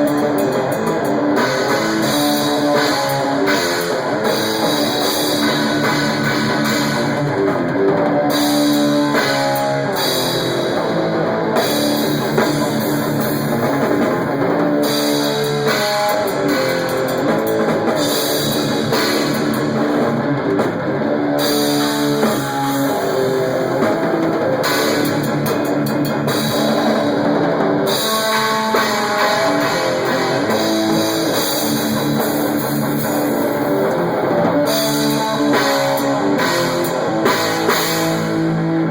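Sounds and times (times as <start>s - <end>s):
distorted electric guitar: 0.0s - 38.9s
drum kit: 0.0s - 38.9s
heavy metal band playing: 0.0s - 38.9s.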